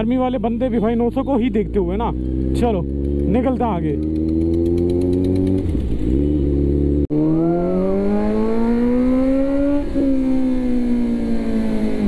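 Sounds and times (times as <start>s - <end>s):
motorcycle engine accelerating: 0.9s - 12.0s.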